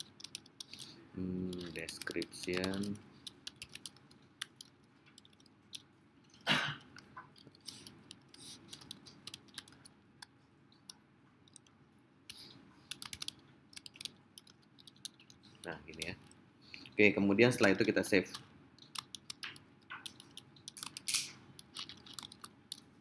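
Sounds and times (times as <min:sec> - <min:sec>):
keyboard typing: 0:00.0 - 0:05.9, 0:06.9 - 0:22.9.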